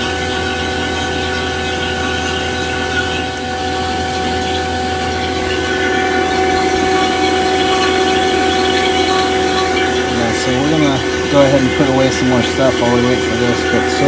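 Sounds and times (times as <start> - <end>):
vacuum pump humming and whining: 0.0 - 14.0.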